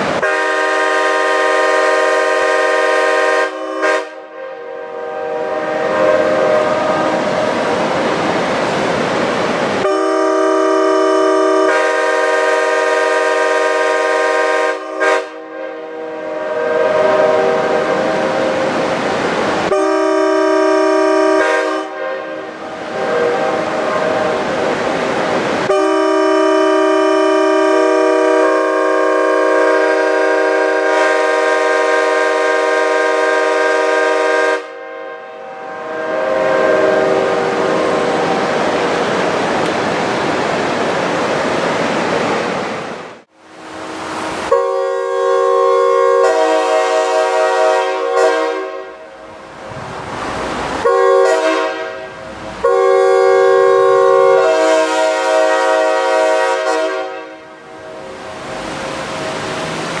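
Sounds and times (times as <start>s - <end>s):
train horn blasts: 0.1s - 7.5s, 9.8s - 18.8s, 19.6s - 25.0s, 25.6s - 38.8s, 43.7s - 49.5s, 50.8s - 60.0s
train horn chord: 0.2s - 7.5s, 9.8s - 18.7s, 19.7s - 24.9s, 25.6s - 38.7s, 43.7s - 49.4s, 50.8s - 60.0s.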